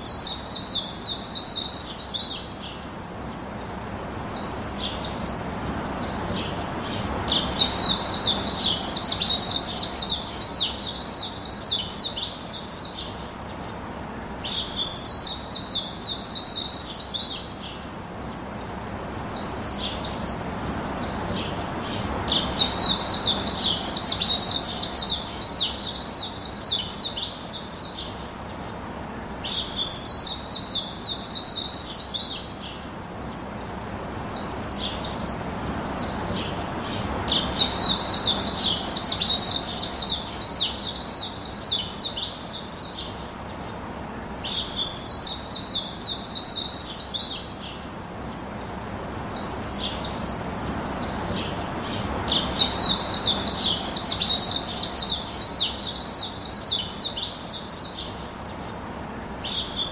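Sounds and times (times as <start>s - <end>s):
faint steady background hiss: 0.0s - 59.9s
songbirds chirping: 0.0s - 59.9s.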